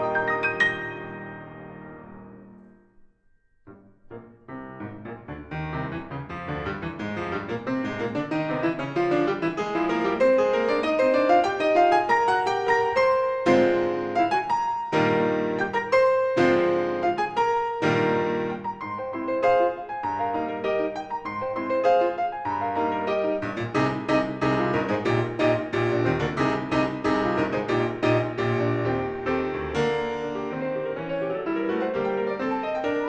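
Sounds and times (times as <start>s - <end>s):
solo acoustic piano: 0.0s - 33.0s.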